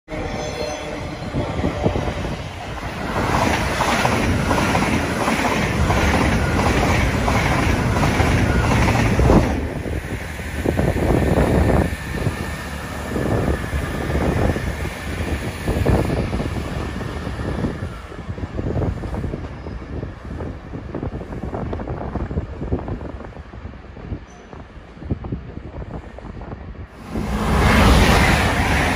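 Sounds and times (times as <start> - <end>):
diesel train rumble: 0.1 - 24.0.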